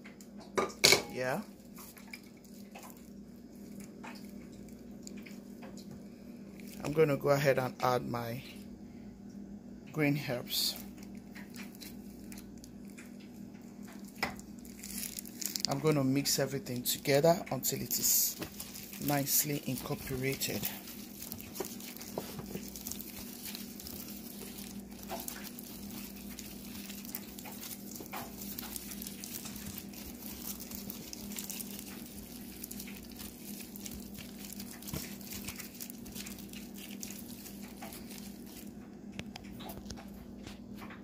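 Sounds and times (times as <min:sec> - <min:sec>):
low steady hum: 0:00.0 - 0:41.0
wet squelching of raw chicken: 0:01.6 - 0:07.0, 0:10.8 - 0:15.9, 0:17.0 - 0:40.2.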